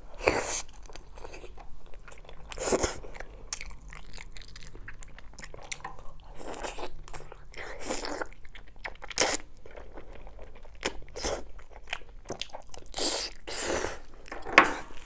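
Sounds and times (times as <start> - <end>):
chewing: 0.2 - 15.0.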